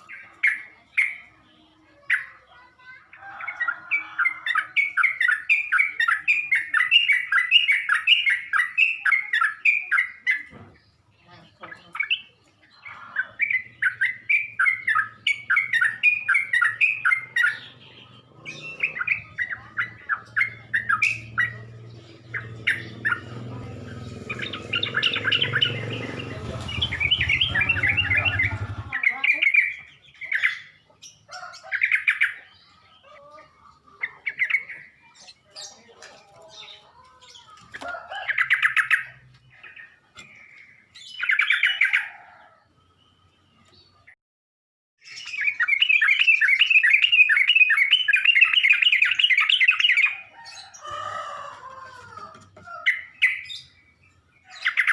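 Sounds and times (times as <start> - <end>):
bulbul singing: 0.0 - 44.2, 45.0 - 54.9.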